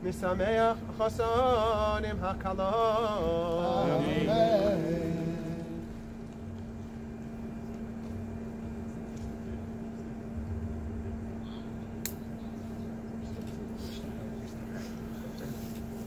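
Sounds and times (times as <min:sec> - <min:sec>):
faint rumbling background: 0:00.0 - 0:16.0
low machine hum: 0:00.0 - 0:16.0.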